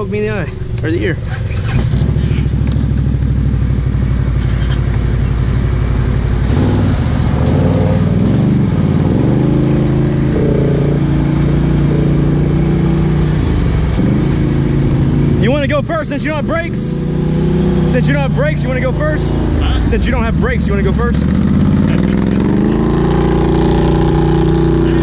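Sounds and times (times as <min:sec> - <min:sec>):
atv engine accelerating: 0:00.0 - 0:25.0.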